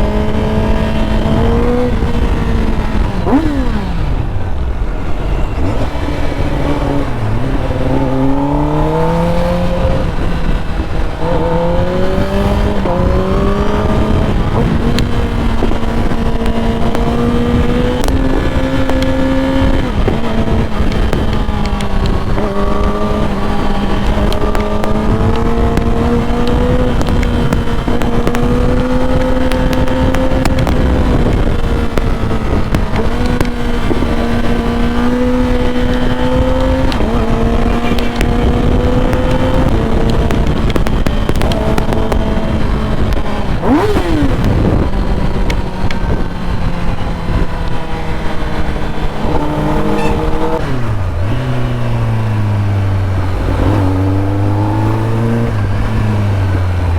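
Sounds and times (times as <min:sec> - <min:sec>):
motorbike engine revving: 0:00.0 - 0:56.9
wind rumble on microphone: 0:00.0 - 0:56.9.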